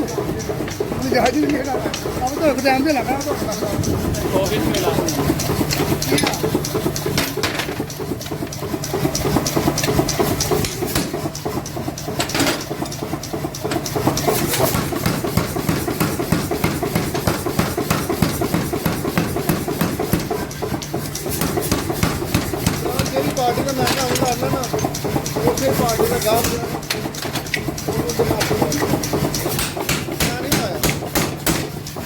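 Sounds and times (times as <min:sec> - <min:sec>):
machinery humming: 0:00.0 - 0:32.0
rapid even clicking: 0:00.0 - 0:32.0.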